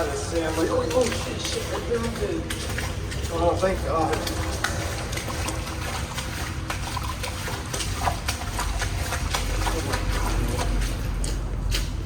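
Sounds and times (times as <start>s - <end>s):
footsteps splashing through water: 0.0s - 12.0s
running water: 0.0s - 12.0s.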